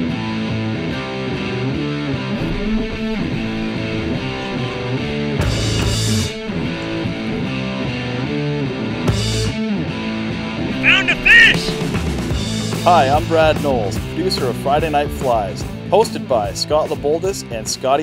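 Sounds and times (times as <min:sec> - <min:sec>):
upbeat guitar rock music: 0:00.0 - 0:18.0.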